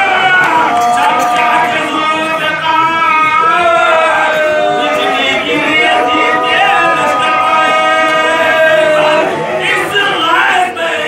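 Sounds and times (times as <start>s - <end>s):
male voices chanting a lament: 0.0s - 11.0s.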